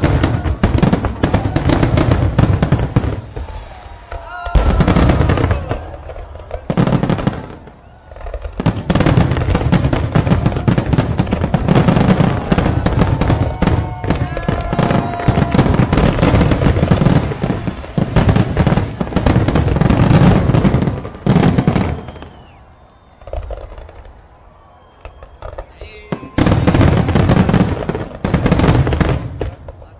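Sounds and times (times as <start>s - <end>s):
fireworks booming and crackling: 0.0s - 29.9s.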